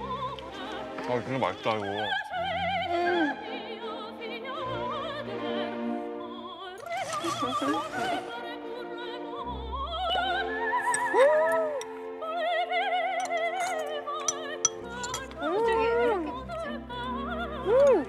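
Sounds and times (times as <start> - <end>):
operatic voice singing: 0.0 - 18.0.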